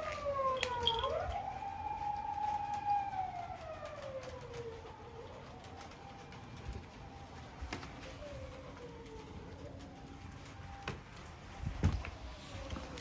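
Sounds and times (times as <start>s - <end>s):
emergency vehicle siren wailing: 0.0s - 13.0s.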